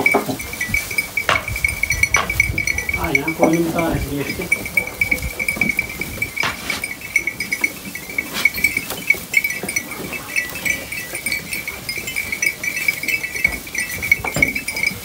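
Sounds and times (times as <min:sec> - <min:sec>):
hay rustling and knocks: 0:00.0 - 0:15.0
high tinkling like small bells: 0:00.0 - 0:15.0
sheep munching: 0:00.0 - 0:15.0.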